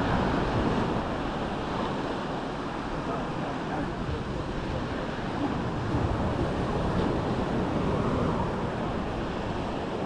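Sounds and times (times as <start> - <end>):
surf washing on a beach: 0.0 - 10.0
wind buffeting microphone: 0.0 - 10.0.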